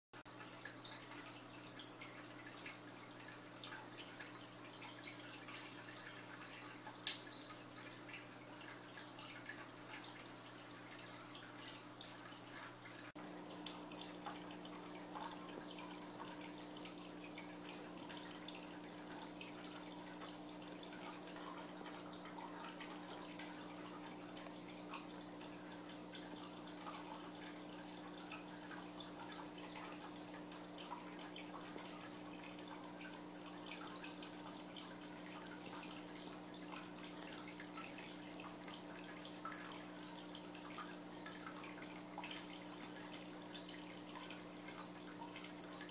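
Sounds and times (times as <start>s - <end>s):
low pump hum: 0.2s - 45.9s
water dripping and trickling: 0.2s - 45.9s.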